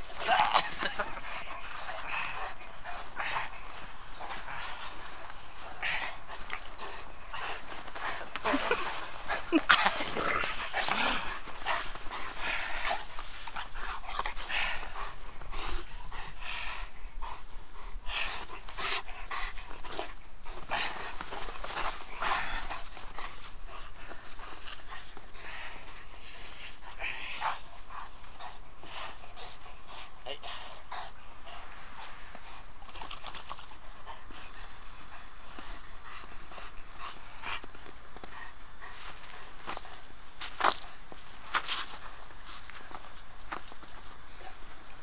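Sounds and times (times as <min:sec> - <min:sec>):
scuffs and crunches: 0:00.0 - 0:15.9, 0:18.1 - 0:29.6, 0:30.4 - 0:45.0
dog panting: 0:00.0 - 0:45.0.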